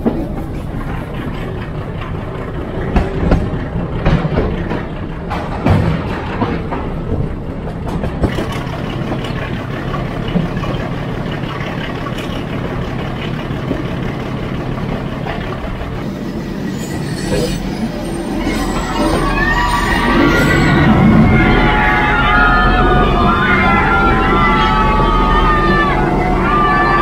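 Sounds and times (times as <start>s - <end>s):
train coach rumbling on rails: 0.0s - 27.0s.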